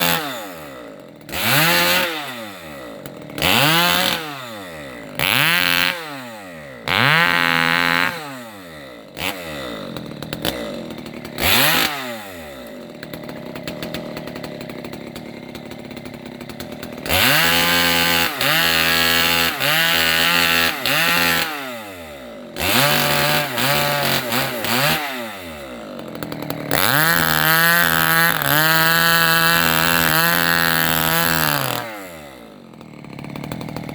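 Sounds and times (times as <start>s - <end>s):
chainsaw revving and cutting: 0.0s - 33.9s.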